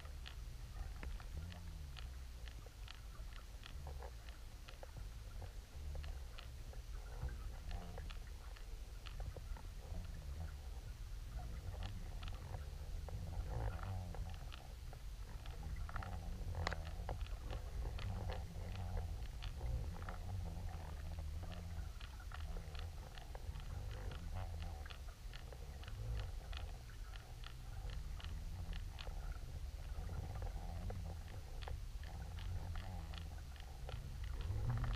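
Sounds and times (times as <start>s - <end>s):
small clicks and ticks: 0.0s - 34.9s
underwater rumble of moving water: 0.0s - 34.9s.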